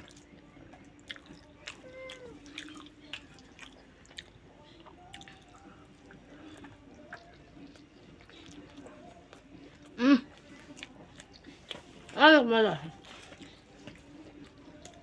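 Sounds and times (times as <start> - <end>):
wet chewing: 0.0 - 15.0.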